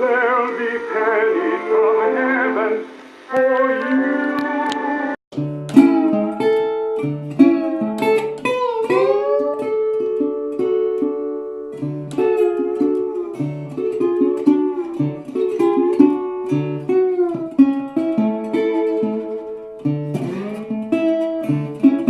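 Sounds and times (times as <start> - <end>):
guitar music over radio speaker: 0.0 - 22.0.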